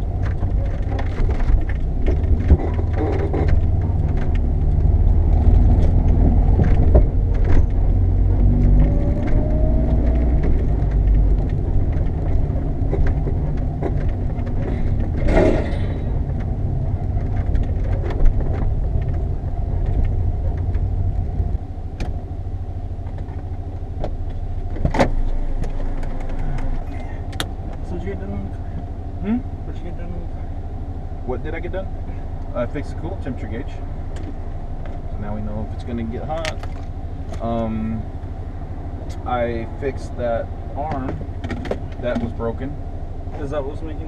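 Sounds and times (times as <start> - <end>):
car engine and exhaust drone: 0.0 - 44.0
road noise: 0.0 - 44.0.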